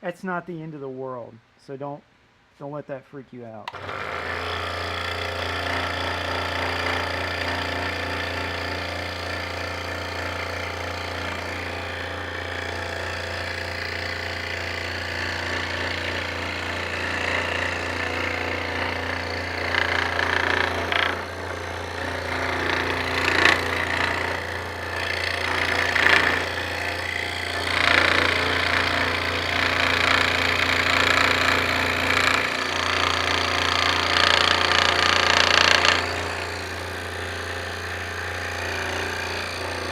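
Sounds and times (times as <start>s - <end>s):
scroll saw humming: 3.6s - 39.9s
saw blade cutting wood: 3.7s - 39.9s.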